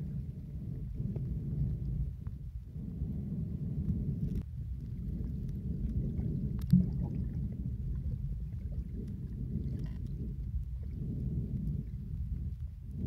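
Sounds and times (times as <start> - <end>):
muffled underwater water rumble: 0.0 - 13.0.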